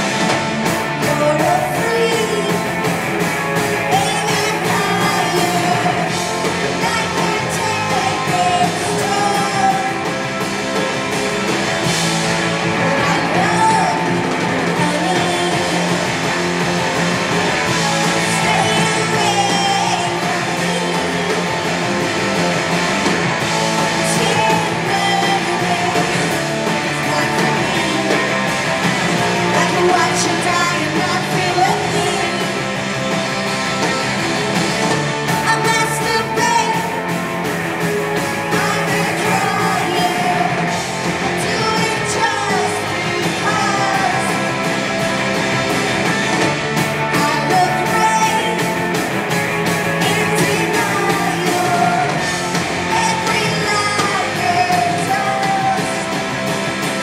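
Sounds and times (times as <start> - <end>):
drums: 0.0 - 57.0
electric guitars: 0.0 - 57.0
person singing: 0.8 - 10.8, 12.6 - 33.1, 35.3 - 44.8, 46.1 - 57.0.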